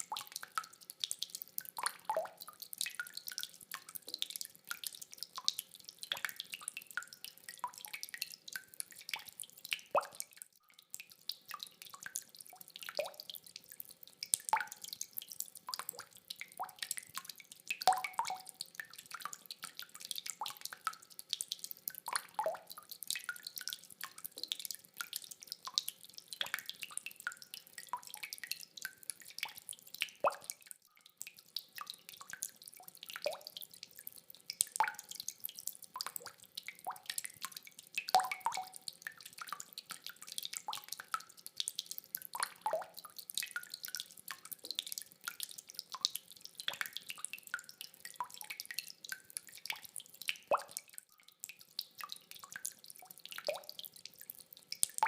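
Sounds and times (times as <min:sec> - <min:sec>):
rain dripping: 0:00.0 - 0:55.0.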